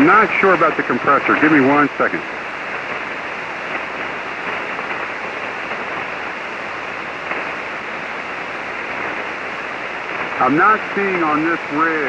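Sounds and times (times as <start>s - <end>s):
radio receiver static hiss: 0.0s - 12.0s.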